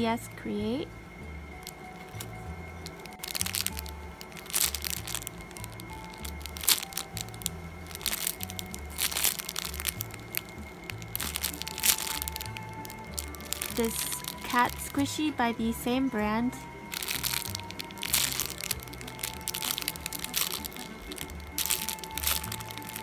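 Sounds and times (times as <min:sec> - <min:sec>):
background music with bass: 0:00.0 - 0:23.0
plastic bag crinkling: 0:01.6 - 0:23.0.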